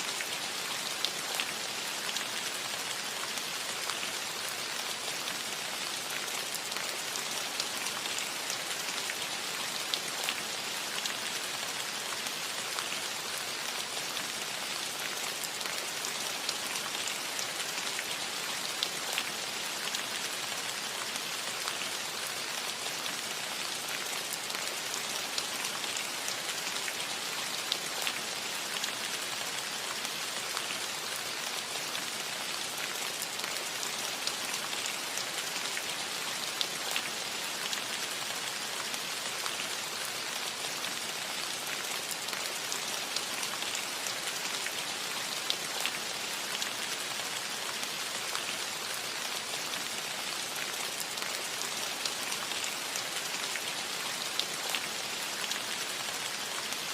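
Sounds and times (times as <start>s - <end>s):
rain falling on a roof: 0.0s - 56.9s.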